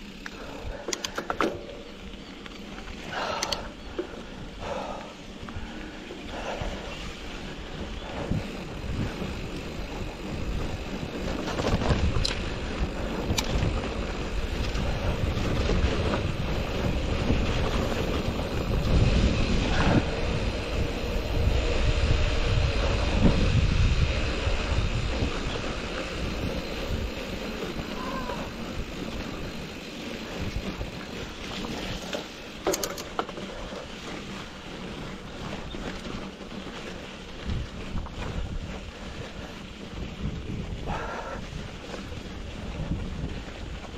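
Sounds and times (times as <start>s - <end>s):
bike rattling clicks: 0.0s - 43.9s
tyres rumbling on gravel: 0.0s - 43.9s
wind buffeting microphone: 0.0s - 43.9s.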